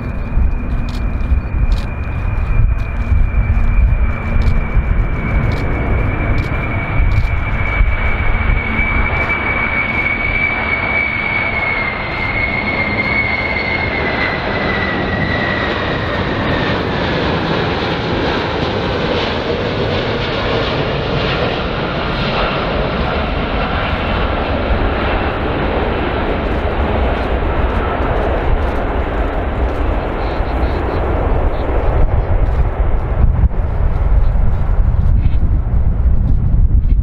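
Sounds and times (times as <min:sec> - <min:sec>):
high jet engine whine: 0:00.0 - 0:37.0
jet engines rushing: 0:00.0 - 0:37.0.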